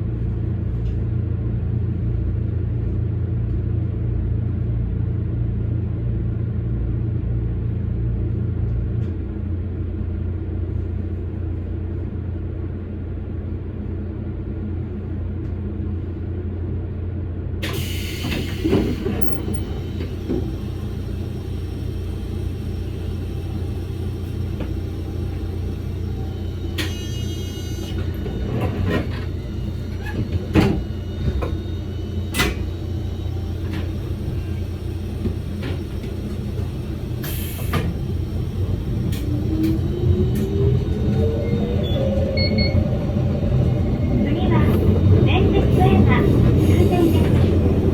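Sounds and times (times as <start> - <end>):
train rumbling on track: 0.0 - 47.9.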